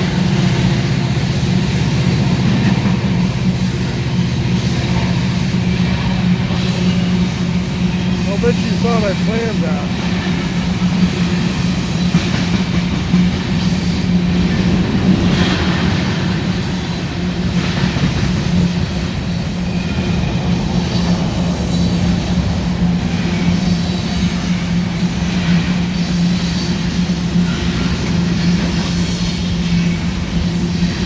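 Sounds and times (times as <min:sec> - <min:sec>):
train rolling on rails: 0:00.0 - 0:31.0.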